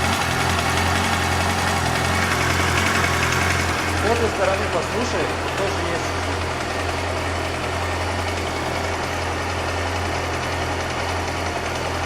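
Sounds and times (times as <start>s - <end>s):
motorcycle engine idling: 0.0s - 12.0s
ticking clatter from engine: 0.0s - 12.0s.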